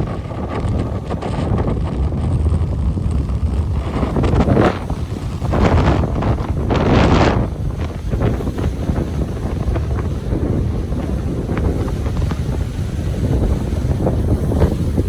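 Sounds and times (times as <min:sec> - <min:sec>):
ocean surf on beach: 0:00.0 - 0:15.0
wind buffeting microphone: 0:00.0 - 0:15.0.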